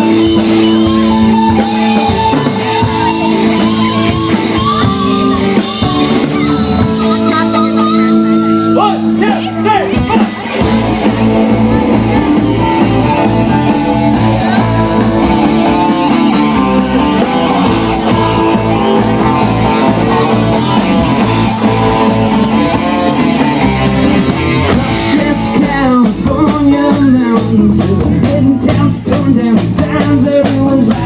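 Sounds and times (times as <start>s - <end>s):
loud rock music: 0.0s - 31.0s.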